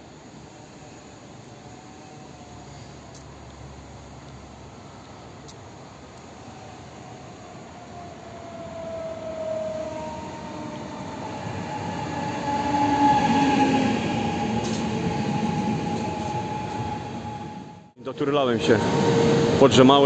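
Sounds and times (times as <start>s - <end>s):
train wheels rumbling: 0.0s - 20.0s
train whine of gliding tones: 0.0s - 20.0s.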